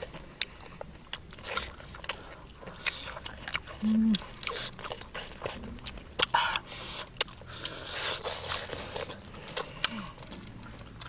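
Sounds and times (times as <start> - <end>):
lip smacks and chewing: 0.0 - 11.0.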